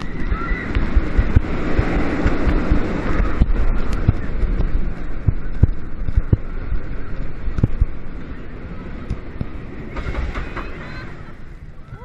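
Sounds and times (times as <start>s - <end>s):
roller coaster wheels rumbling: 0.0s - 12.0s
wind buffeting microphone: 0.0s - 12.0s.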